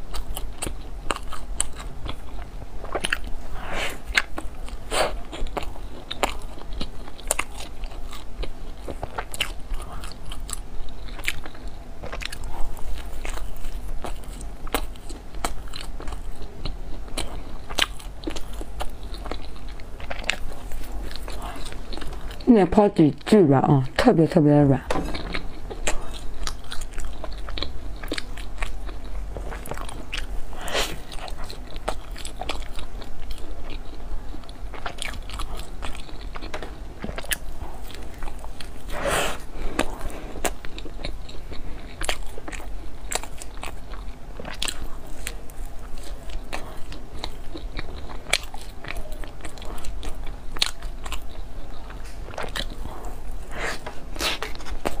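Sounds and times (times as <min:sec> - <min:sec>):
bread biting and chewing: 0:00.0 - 0:22.5, 0:25.0 - 0:55.0.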